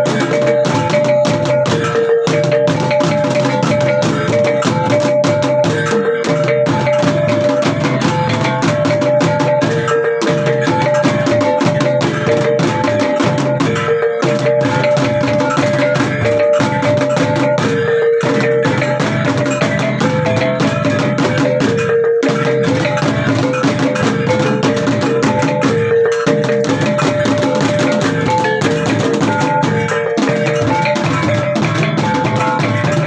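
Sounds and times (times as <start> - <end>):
rapid drumming: 0.0 - 33.0
ringing tones alternating: 0.0 - 33.0.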